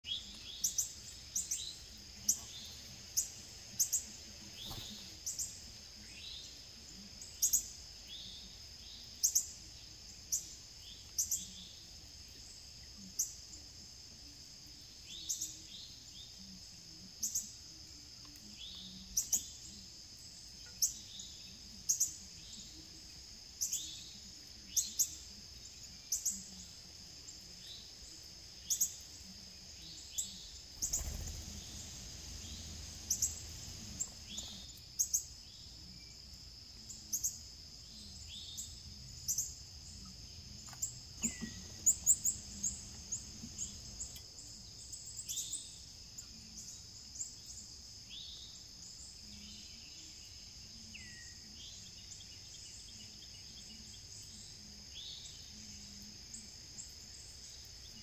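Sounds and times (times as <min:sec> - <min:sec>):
songbirds chirping: 0:00.0 - 0:58.0
high insect drone: 0:00.1 - 0:58.0.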